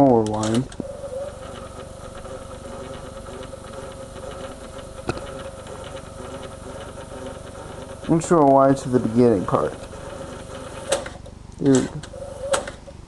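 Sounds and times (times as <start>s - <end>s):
tape player motor hum and whine: 0.0s - 13.0s.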